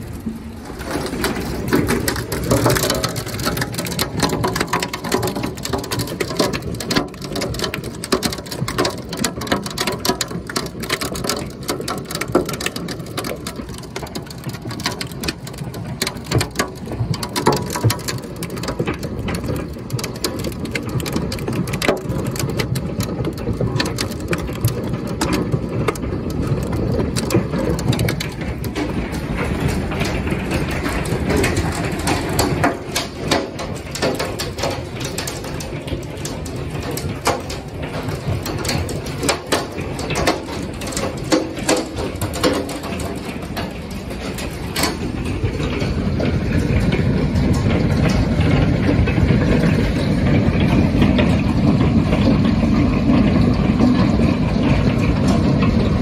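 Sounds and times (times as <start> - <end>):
hailstones pounding on house: 0.0 - 56.0
roar of falling rain: 0.0 - 56.0.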